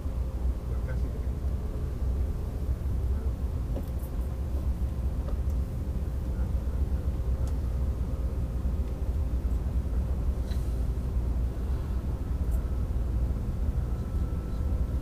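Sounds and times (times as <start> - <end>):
faint steady hum: 0.0 - 15.0
train rumble inside cabin: 0.0 - 15.0.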